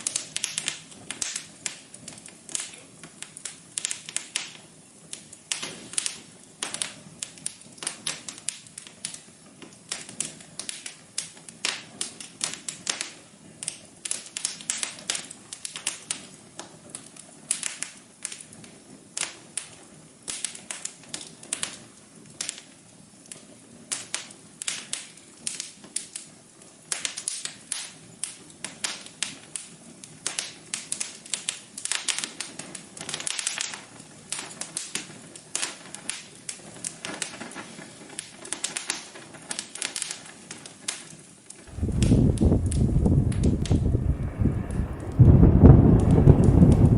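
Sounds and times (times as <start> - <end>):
hiss of flames: 0.0 - 46.9
wood fire crackling: 0.0 - 46.9.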